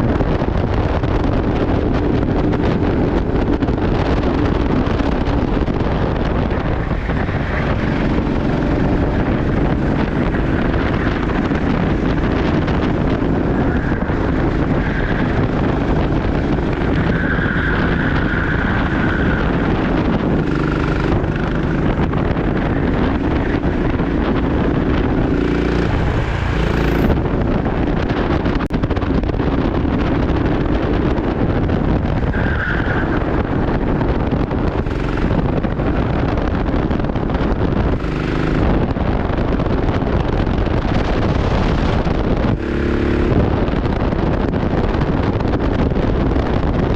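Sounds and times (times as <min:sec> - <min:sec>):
go-kart engine running hard: 0:00.0 - 0:46.9
wind noise on microphone: 0:00.0 - 0:46.9.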